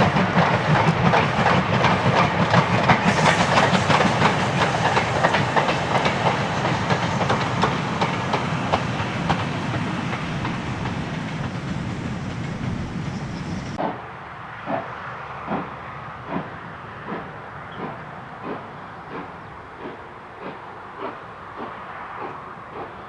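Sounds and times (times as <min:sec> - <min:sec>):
train wheels clattering over rail joints: 0:00.0 - 0:14.0, 0:14.7 - 0:23.0.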